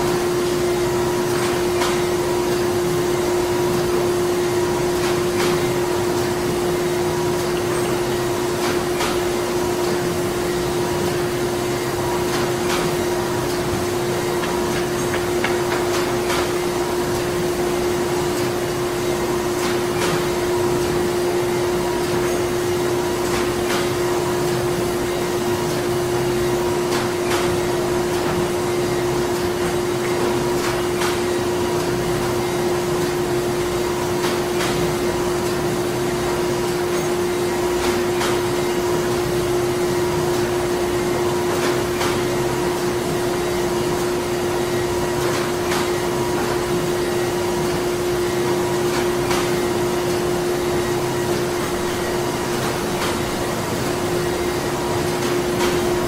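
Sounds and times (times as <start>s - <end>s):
factory machinery humming: 0.0s - 56.0s.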